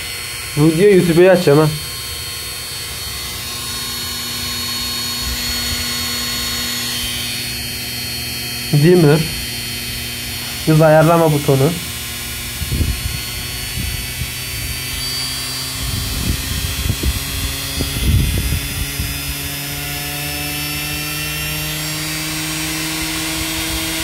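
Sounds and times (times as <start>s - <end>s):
motor whine rising in pitch: 0.0s - 24.0s.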